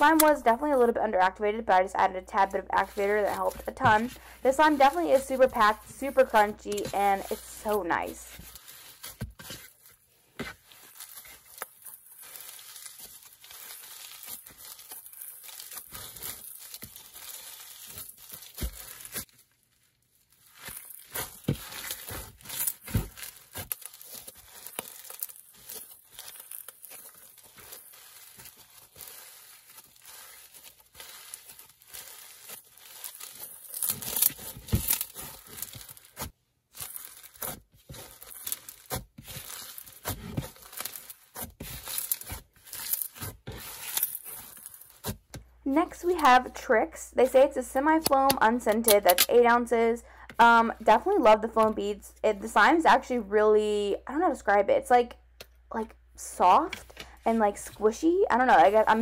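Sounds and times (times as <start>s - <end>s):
crunchy slime crackling: 1.7s - 46.7s, 56.6s - 59.0s.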